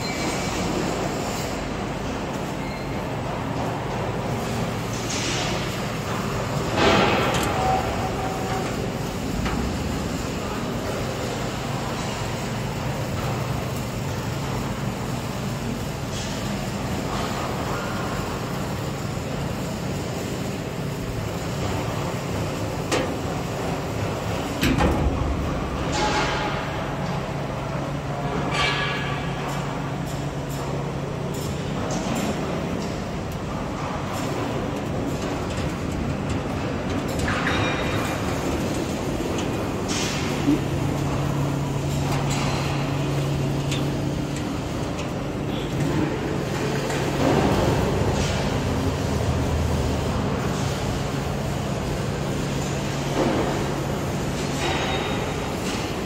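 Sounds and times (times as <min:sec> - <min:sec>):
workshop machinery hum and hiss: 0:00.0 - 0:56.0.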